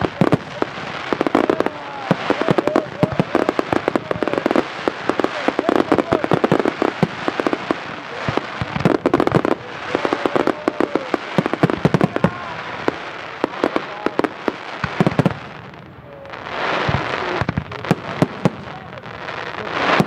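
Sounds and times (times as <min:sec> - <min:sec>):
firework crackle: 0:00.0 - 0:20.0.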